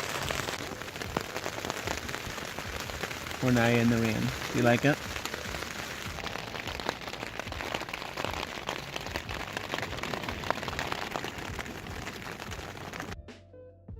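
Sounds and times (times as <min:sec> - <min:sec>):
rain pattering on tent fabric: 0:00.0 - 0:13.2.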